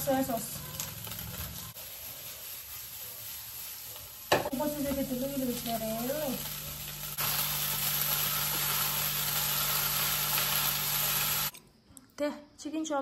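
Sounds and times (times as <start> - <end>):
noodles sizzling in a wok: 0.0 - 11.5.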